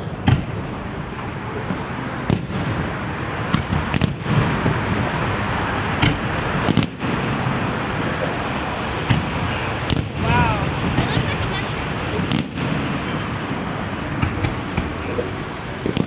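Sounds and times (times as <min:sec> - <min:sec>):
dense noise of firework bursts: 0:00.0 - 0:16.0
fireworks bangs: 0:00.0 - 0:16.0.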